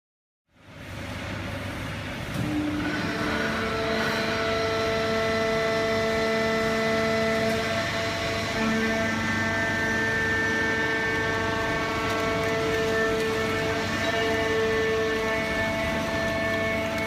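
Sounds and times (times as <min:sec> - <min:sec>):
baling press machine hum: 0:00.5 - 0:17.0
machine whine of steady tones: 0:00.5 - 0:17.0.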